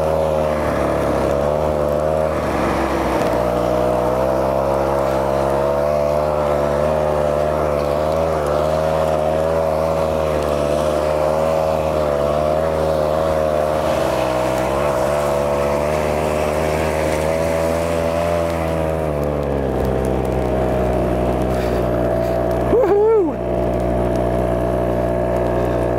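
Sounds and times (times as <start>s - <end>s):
small petrol engine running: 0.0s - 25.9s.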